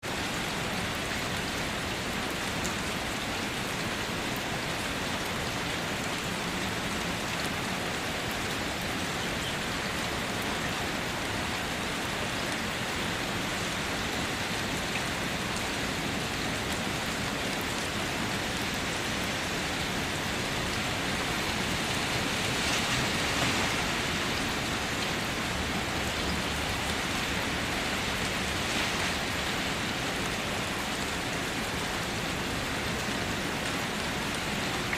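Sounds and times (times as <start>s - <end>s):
rain pattering: 0.1s - 34.9s.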